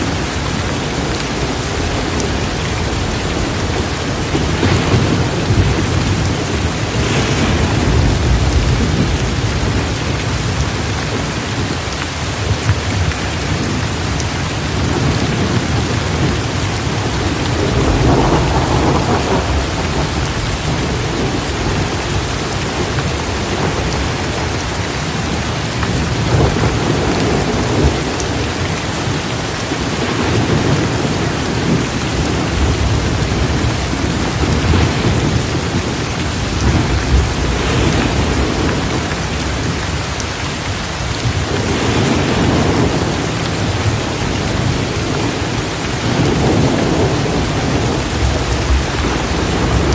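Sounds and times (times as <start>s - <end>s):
heavy rain: 0.0s - 49.9s
thunder rumbling: 0.0s - 49.9s.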